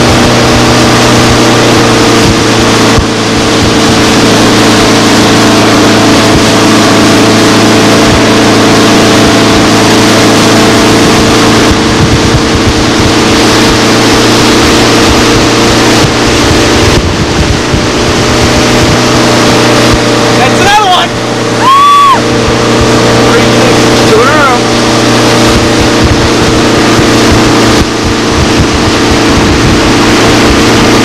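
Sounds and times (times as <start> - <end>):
motorboat engine drone: 0.0 - 31.0
wake rushing: 0.0 - 31.0
wind: 0.0 - 31.0.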